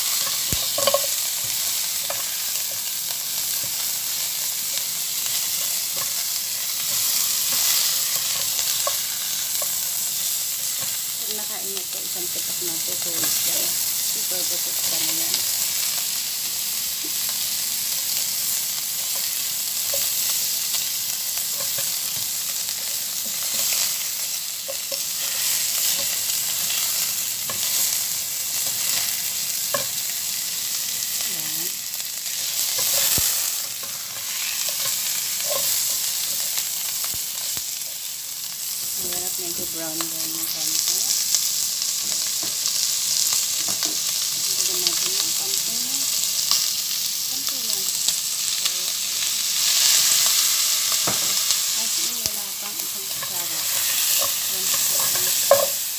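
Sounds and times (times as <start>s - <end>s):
meat sizzling in a pot: 0.0s - 55.9s.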